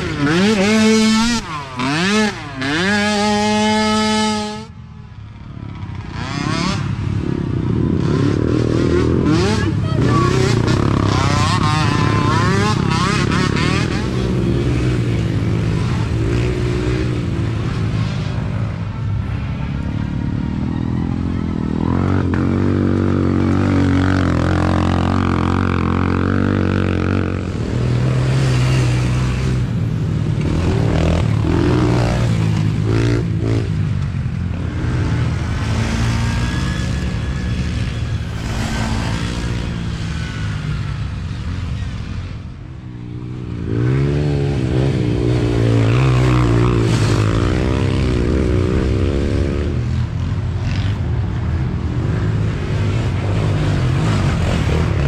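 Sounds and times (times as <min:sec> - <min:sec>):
small atv engines revving past: 0:00.0 - 0:55.0.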